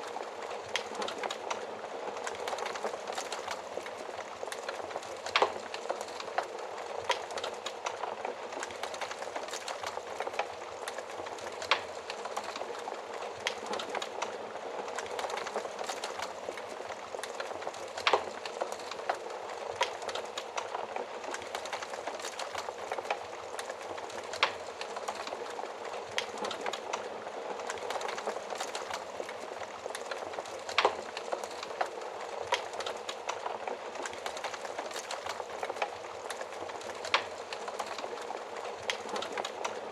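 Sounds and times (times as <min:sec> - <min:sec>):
wood fire crackling: 0:00.0 - 0:39.9
fire popping: 0:00.1 - 0:39.9.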